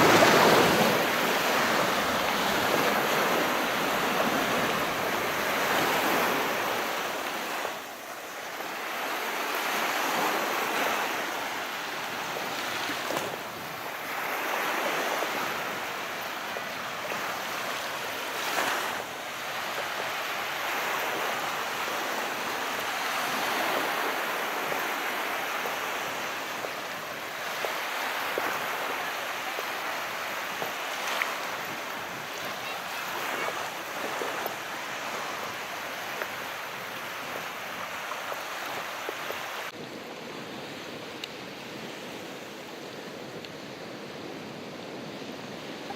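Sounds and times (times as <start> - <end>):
small waves washing onto shore: 0.0 - 45.9.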